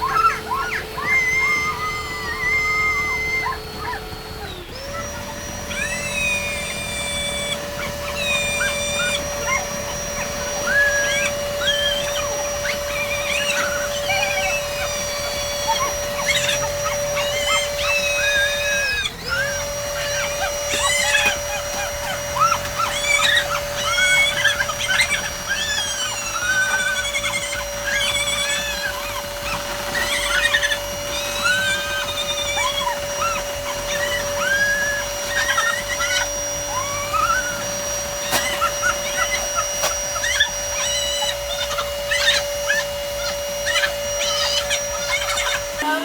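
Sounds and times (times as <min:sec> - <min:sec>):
electric air blower running: 0:00.0 - 0:46.0
rubber balloon squeaking: 0:00.0 - 0:46.0.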